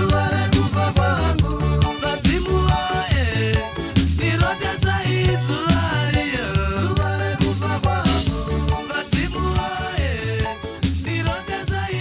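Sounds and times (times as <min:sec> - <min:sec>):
song with bass drums and vocals: 0:00.0 - 0:12.0.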